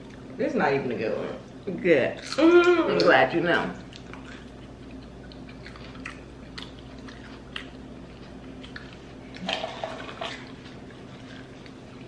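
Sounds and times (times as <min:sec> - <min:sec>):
chewing and mouth sounds: 0:02.2 - 0:12.0.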